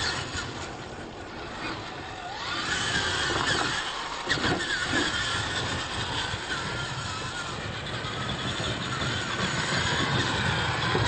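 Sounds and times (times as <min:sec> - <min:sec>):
electric toy truck motors whining: 0:00.0 - 0:11.0.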